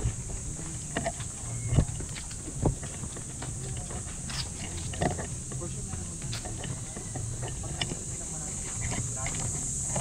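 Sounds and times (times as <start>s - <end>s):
footsteps on concrete: 0.0s - 10.0s
low hum: 0.0s - 10.0s.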